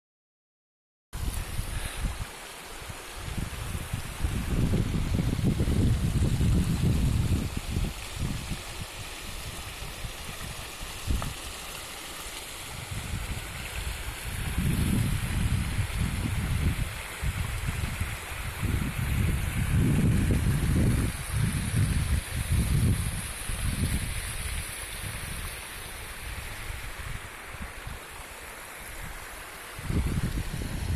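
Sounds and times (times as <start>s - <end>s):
wind buffeting microphone: 1.2s - 11.6s, 12.7s - 25.5s, 28.9s - 30.9s
mountain stream rushing: 1.2s - 30.9s.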